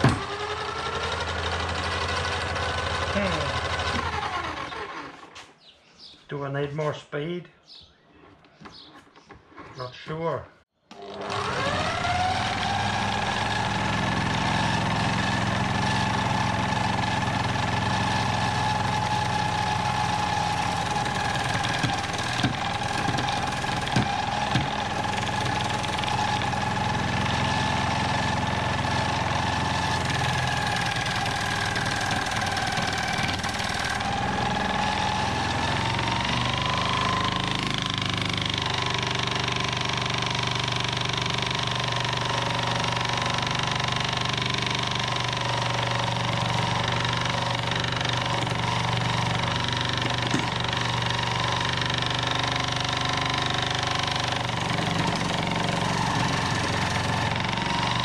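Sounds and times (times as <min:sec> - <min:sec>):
chisel cutting wood: 0:00.0 - 0:05.4, 0:10.9 - 0:58.0
lathe motor whining: 0:00.0 - 0:05.5, 0:10.9 - 0:58.0.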